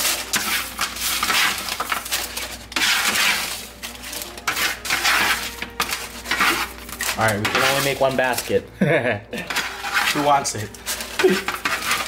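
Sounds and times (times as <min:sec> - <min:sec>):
paper crinkling: 0:00.0 - 0:08.6, 0:09.5 - 0:12.0
tongs scraping fries: 0:00.0 - 0:08.7, 0:09.4 - 0:12.0.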